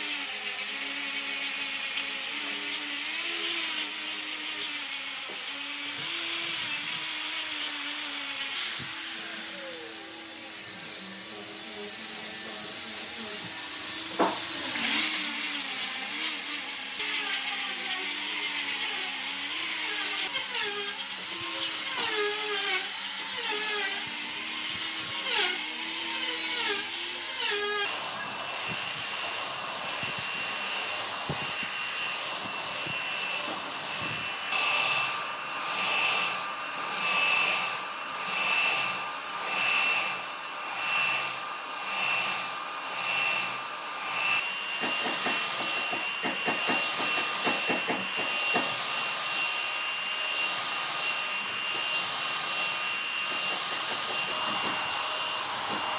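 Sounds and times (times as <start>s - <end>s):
power tool motor: 0.0s - 55.9s.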